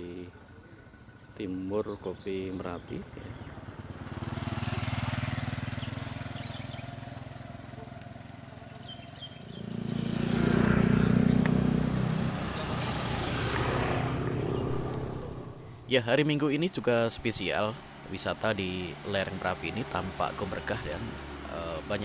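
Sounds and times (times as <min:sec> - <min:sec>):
vehicle engines passing by: 0:00.0 - 0:22.0.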